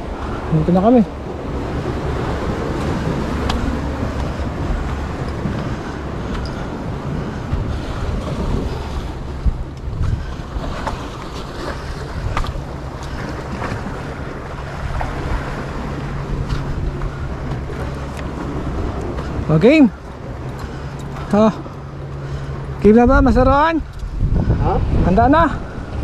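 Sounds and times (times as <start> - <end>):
sea waves rumbling: 0.0 - 26.0
steady low hum: 0.0 - 26.0
wind buffeting microphone: 0.0 - 26.0.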